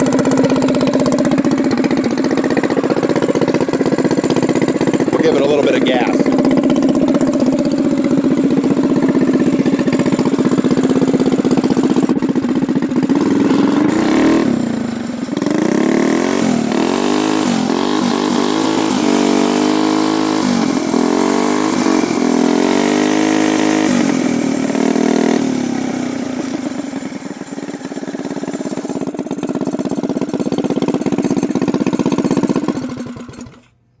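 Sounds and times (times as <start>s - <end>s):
mini bike engine idling and revving: 0.0s - 34.0s.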